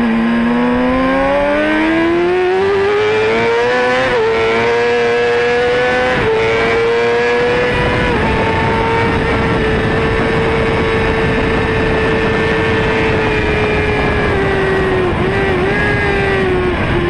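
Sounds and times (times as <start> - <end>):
motorcycle engine revving: 0.0 - 17.0
wind rushing: 0.0 - 17.0.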